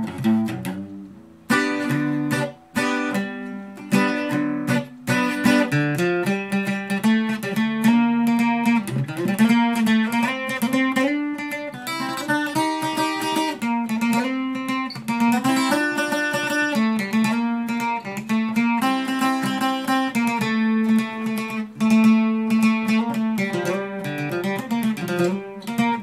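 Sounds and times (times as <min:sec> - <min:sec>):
guitar picked melody: 0:00.0 - 0:26.0.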